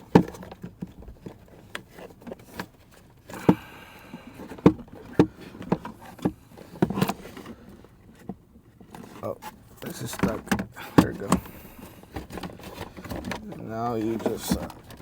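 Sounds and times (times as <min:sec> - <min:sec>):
plastic knocks clicks and rubbing: 0:00.0 - 0:15.0.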